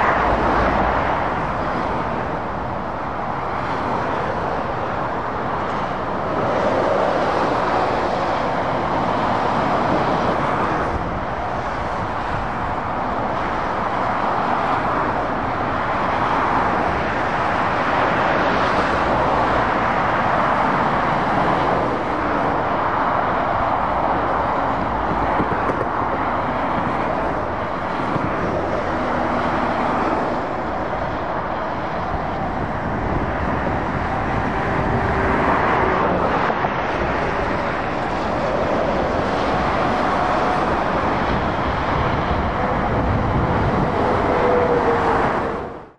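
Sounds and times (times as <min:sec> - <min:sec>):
motorway traffic passing: 0:00.0 - 0:45.9.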